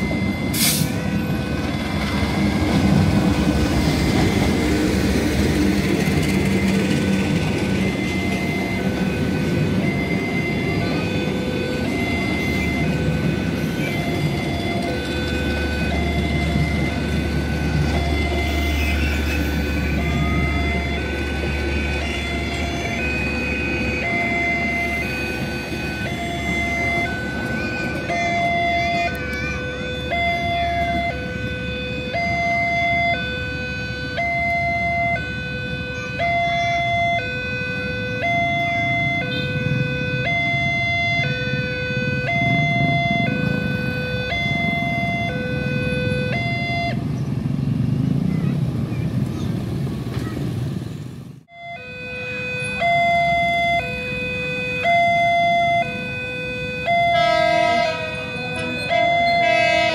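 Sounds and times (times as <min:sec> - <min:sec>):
two-tone crossing alarm chime: 0:00.0 - 0:02.6, 0:06.1 - 0:47.0, 0:51.5 - 0:59.9
low rumble of passing train: 0:00.0 - 0:36.1, 0:36.8 - 0:51.5, 0:55.2 - 0:59.9.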